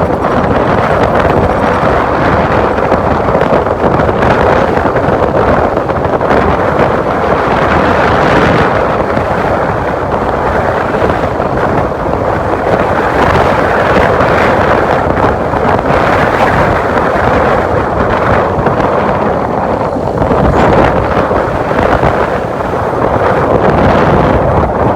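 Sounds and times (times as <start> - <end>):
road and vehicle noise: 0.0 - 24.9
wind rushing over microphone: 0.0 - 24.9.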